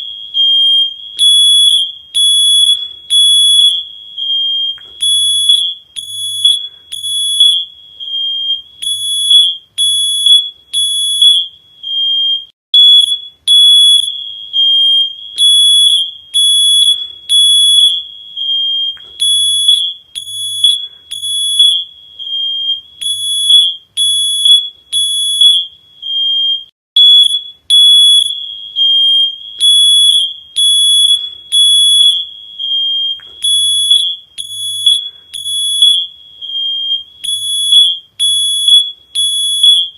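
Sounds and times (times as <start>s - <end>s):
high-pitched electronic alarm beeping: 0.0s - 39.9s.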